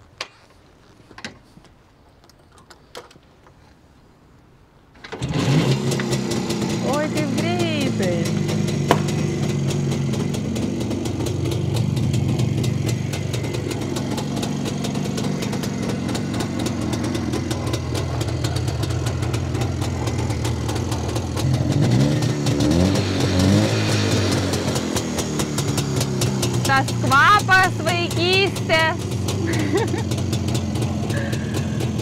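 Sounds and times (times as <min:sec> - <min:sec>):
motorcycle engine idling: 0:05.4 - 0:32.0.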